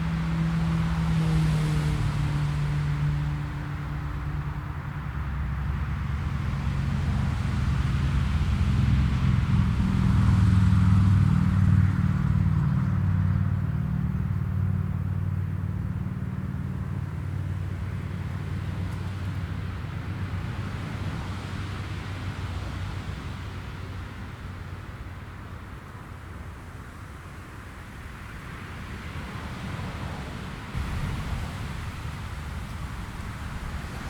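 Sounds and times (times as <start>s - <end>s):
jet airliner engine rumble: 0.0s - 34.0s.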